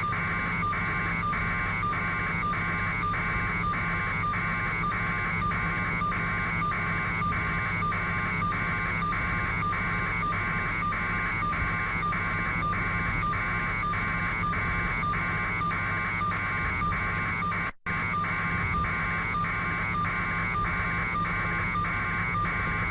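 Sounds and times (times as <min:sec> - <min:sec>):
helicopter cabin low hum: 0:00.0 - 0:22.9.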